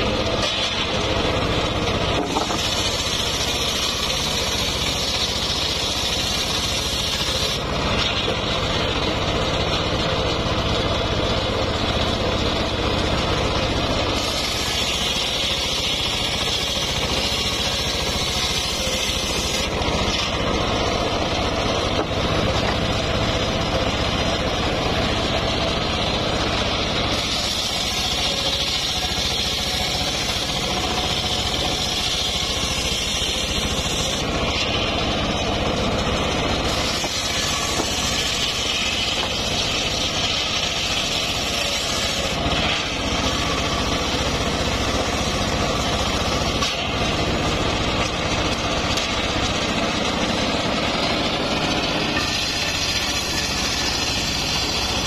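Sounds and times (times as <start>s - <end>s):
table saw cutting wood: 0.0s - 55.0s.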